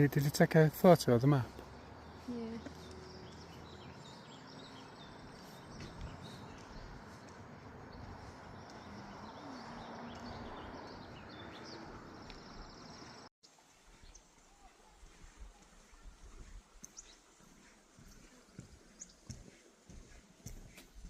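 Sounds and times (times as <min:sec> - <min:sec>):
small birds chirping: 0:00.0 - 0:21.0
steady outdoor hiss: 0:00.0 - 0:21.0.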